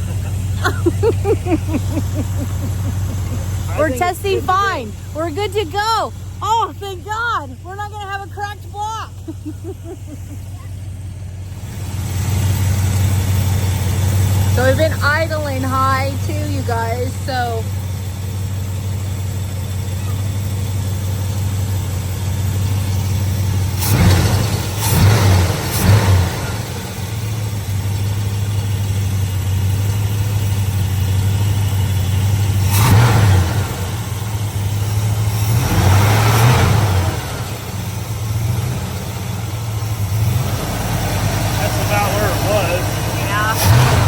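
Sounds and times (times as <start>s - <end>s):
engine revving: 0.0s - 9.9s, 10.9s - 18.8s, 19.7s - 44.0s
car engine fast idle: 0.0s - 44.0s.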